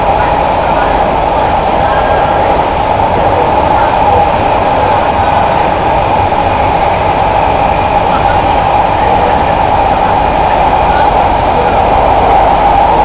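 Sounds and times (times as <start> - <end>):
metro train running: 0.0 - 13.0.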